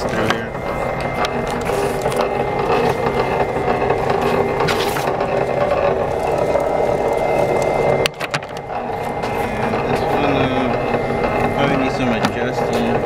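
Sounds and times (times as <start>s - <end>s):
wire stripping machine running: 0.0s - 13.0s.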